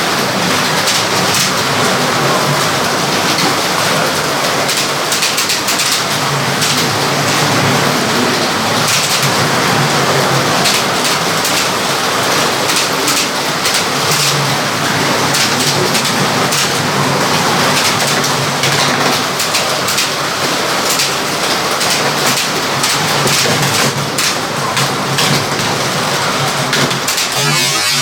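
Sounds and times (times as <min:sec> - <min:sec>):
slot cars whirring: 0:00.0 - 0:28.0
quick clicks and rattles: 0:00.1 - 0:28.0.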